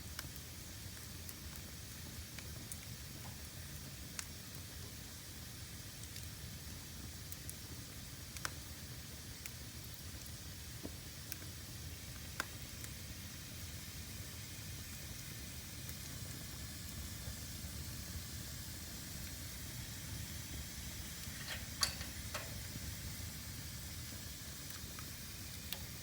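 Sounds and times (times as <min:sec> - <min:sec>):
fire burning in fireplace: 0:00.0 - 0:26.0
fire crackling and popping: 0:00.0 - 0:26.0.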